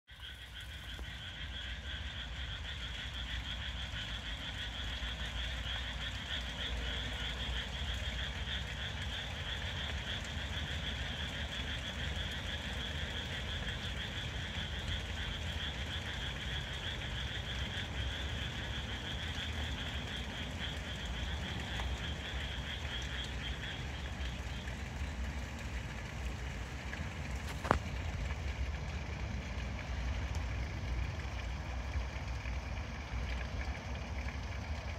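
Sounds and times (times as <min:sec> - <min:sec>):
tree frogs calling: 0:00.1 - 0:28.2
low steady rumble: 0:00.1 - 0:34.9.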